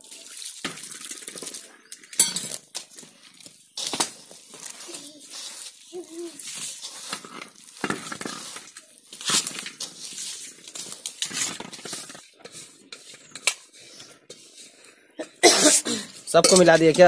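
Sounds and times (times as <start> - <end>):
hands squishing batter in bowl: 0.0 - 15.2, 16.1 - 17.0.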